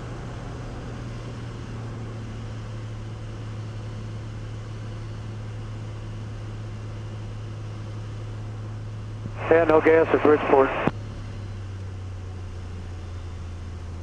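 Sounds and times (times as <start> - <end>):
light aircraft engine and propeller drone: 0.0 - 14.0.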